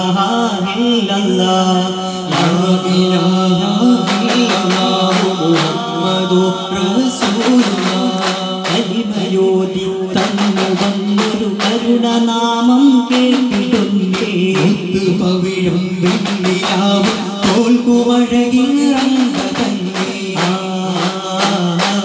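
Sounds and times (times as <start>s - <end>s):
men chanting devotional song: 0.0s - 22.0s
frame drums beating: 1.8s - 22.0s.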